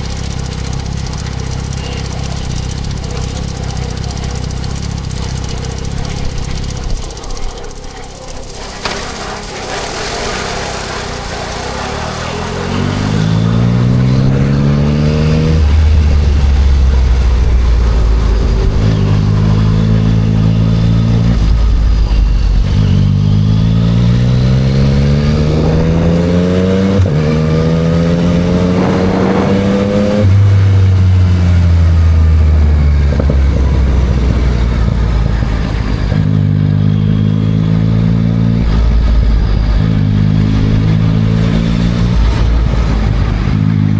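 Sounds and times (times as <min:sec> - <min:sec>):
motorcycle engine revving: 0:00.0 - 0:43.9
wind and road noise: 0:00.0 - 0:43.9.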